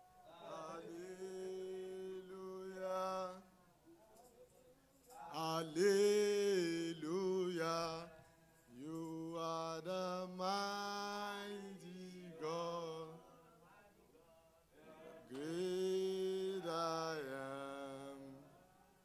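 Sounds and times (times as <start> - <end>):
man singing unaccompanied: 0.0 - 3.5, 5.1 - 18.6.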